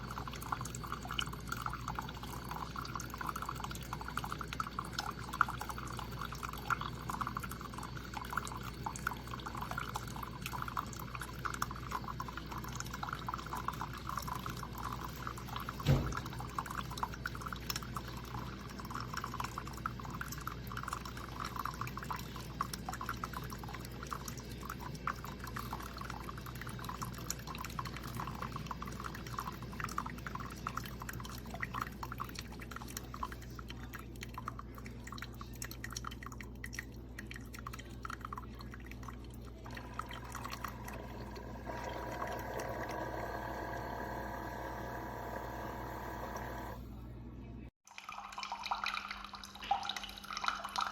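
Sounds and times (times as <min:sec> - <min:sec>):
liquid trickling into a cup: 0:00.0 - 0:46.8, 0:47.9 - 0:50.9.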